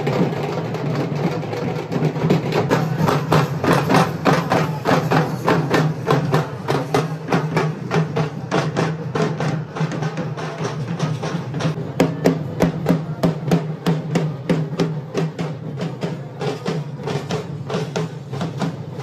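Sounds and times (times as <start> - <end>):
fast drumming: 0.0 - 19.0.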